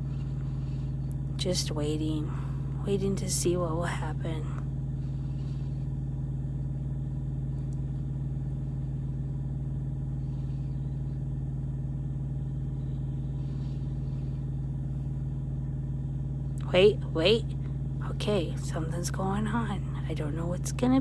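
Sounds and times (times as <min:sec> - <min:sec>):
truck engine drone from cab: 0:00.0 - 0:21.0.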